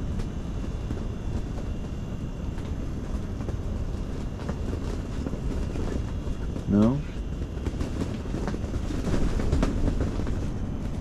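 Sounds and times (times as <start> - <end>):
strong wind buffeting a hut: 0.0 - 11.0.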